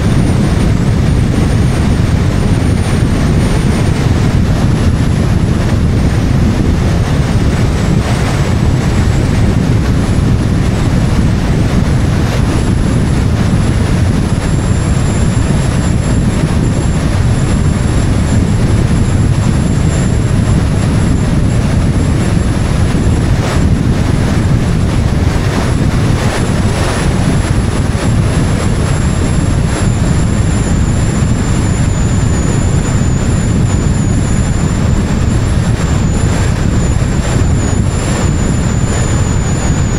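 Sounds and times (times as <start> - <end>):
wind buffeting: 0.0 - 39.9.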